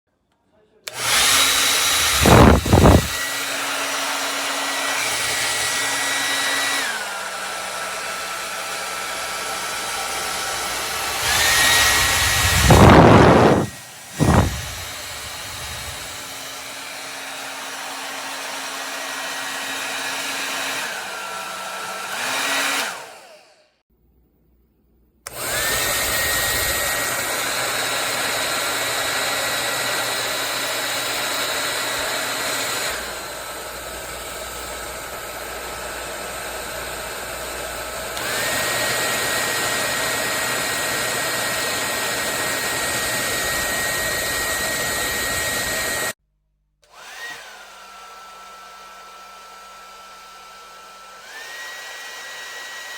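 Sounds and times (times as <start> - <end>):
hair dryer blowing: 0.8 - 23.8, 25.3 - 46.2, 46.8 - 52.9.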